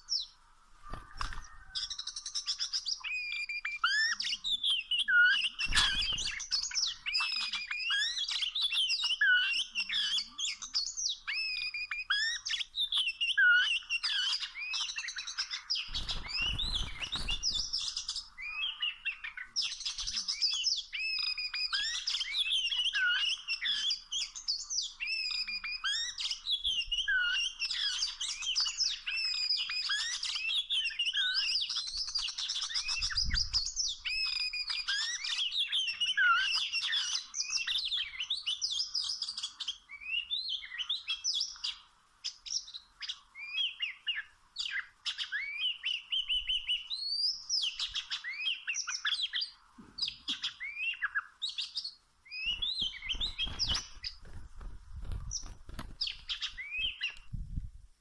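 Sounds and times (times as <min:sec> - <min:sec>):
bird song whistles and chirps: 0:00.0 - 0:54.3, 0:55.2 - 0:57.5.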